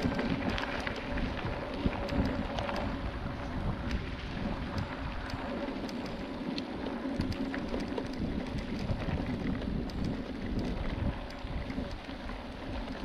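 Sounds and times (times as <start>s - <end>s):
small clicks: 0.0s - 3.0s, 4.6s - 13.0s
mountain bike rattling on trail: 0.0s - 13.0s
wind buffeting microphone: 0.0s - 13.0s.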